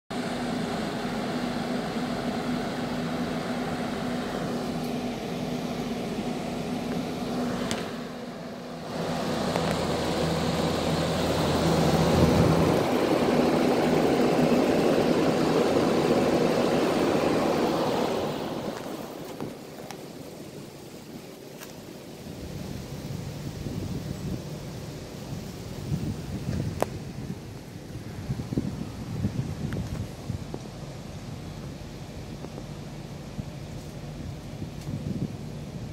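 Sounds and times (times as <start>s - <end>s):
compressor hum: 0.1s - 35.9s
condenser fan rushing air: 0.1s - 35.9s.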